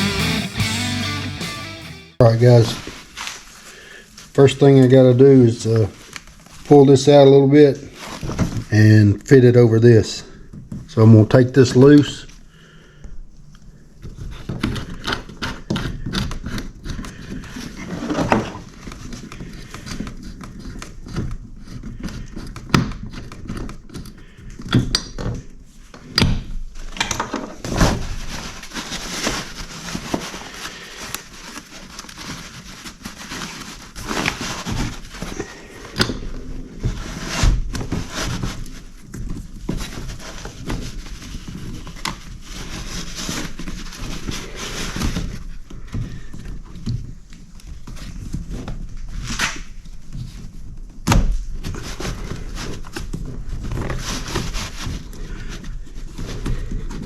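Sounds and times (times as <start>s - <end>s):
rustling: 0.0s - 57.0s.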